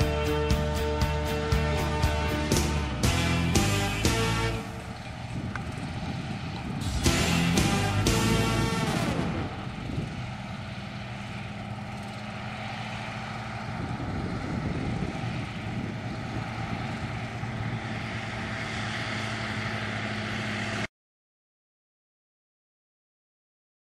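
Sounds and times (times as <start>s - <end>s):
combine harvester running: 0.0s - 20.9s.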